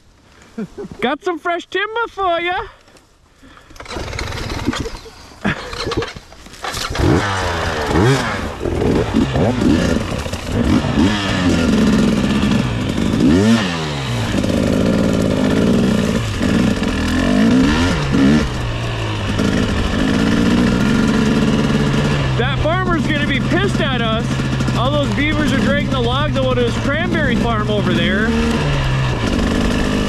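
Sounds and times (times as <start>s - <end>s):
dirt bike engine revving: 3.7s - 30.0s.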